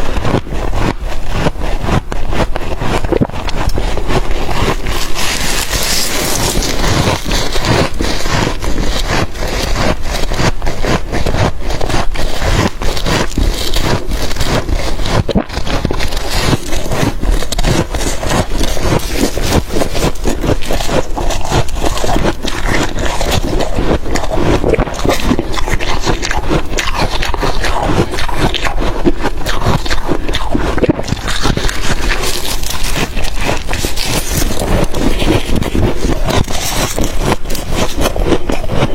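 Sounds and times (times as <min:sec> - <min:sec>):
frost being chewed: 0:00.0 - 0:38.9.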